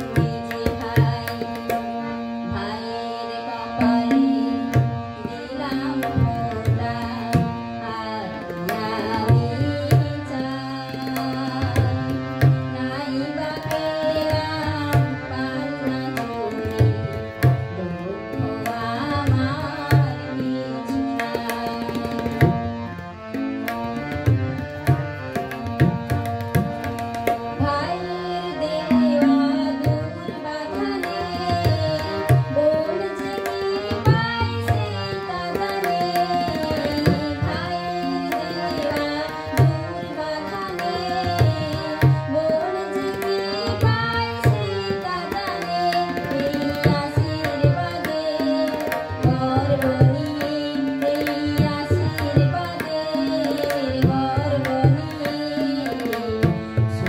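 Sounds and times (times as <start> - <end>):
woman singing: 0.0 - 22.7, 23.3 - 57.0
harmonium: 0.0 - 57.0.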